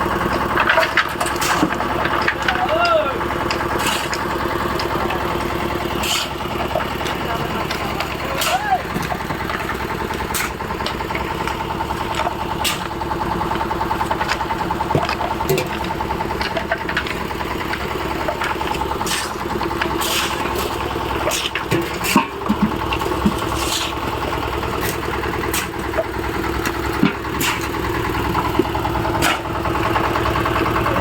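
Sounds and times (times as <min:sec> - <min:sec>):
engine running steadily: 0:00.0 - 0:31.0
sharp clicks and knocks: 0:00.1 - 0:31.0.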